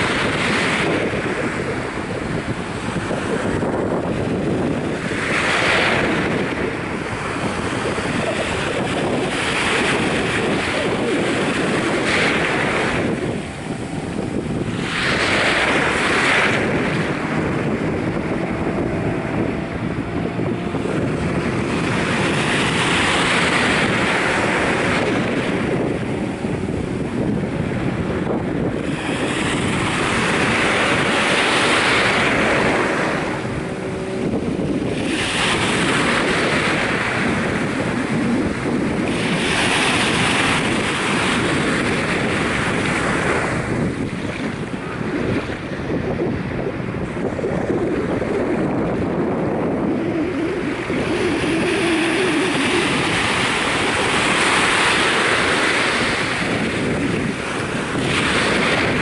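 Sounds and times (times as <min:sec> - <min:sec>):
small waves washing ashore: 0:00.0 - 0:59.0
wind buffeting microphone: 0:00.0 - 0:59.0.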